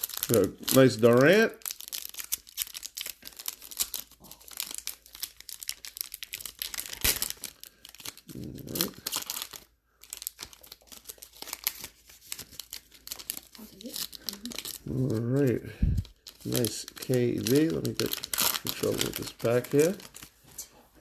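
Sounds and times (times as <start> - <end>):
card packaging crinkling: 0.0 - 20.5.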